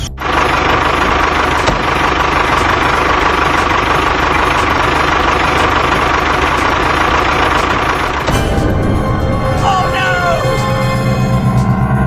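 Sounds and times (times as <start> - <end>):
motor running with low throb: 0.0 - 12.0.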